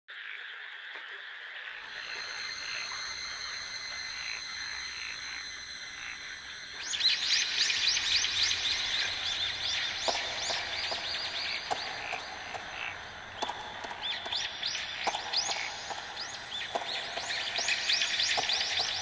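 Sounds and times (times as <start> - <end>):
steady high-pitched tones: 1.8 - 19.0.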